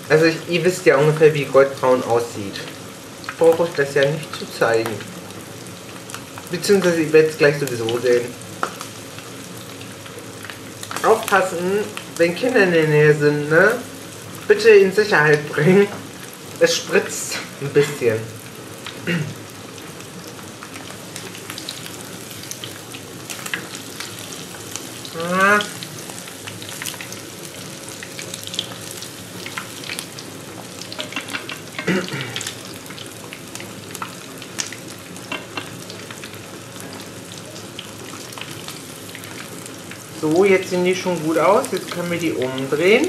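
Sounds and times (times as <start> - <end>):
meat sizzling in hot oil: 0.0 - 43.0.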